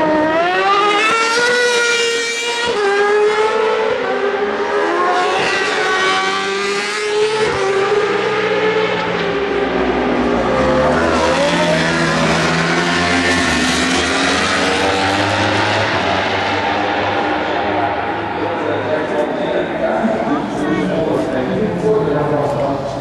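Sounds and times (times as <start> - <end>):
racing motorcycles passing at high revs: 0.0 - 19.3.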